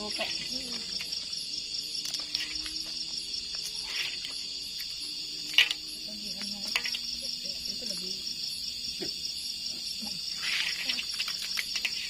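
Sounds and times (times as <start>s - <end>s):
crickets and night insects trilling: 0.0s - 12.0s.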